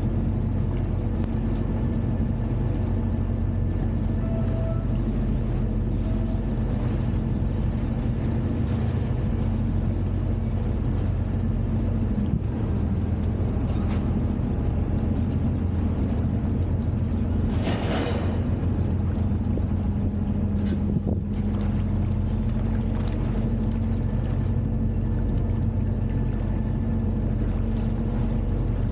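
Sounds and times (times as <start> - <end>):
boat engine droning: 0.0 - 28.9
water churning: 0.0 - 28.9.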